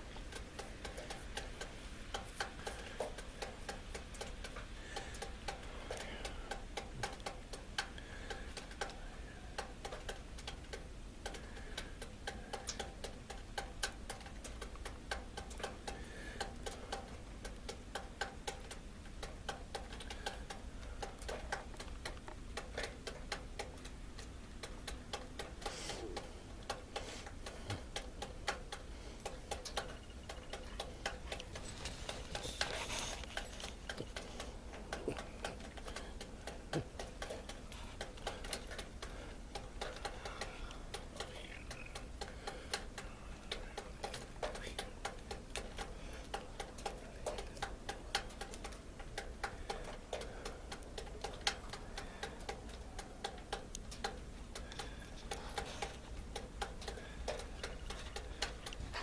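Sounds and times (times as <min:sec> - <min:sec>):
low steady background noise: 0:00.0 - 0:59.0
rapid ticking clicks: 0:00.0 - 0:59.0.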